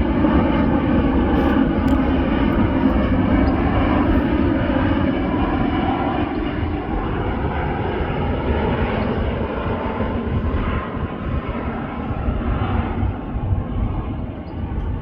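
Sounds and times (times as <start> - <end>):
airplane engines rumbling: 0.0 - 15.0.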